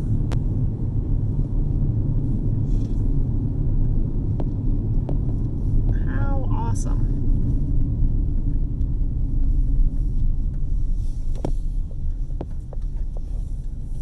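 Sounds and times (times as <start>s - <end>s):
vehicle driving rumble: 0.0s - 14.0s.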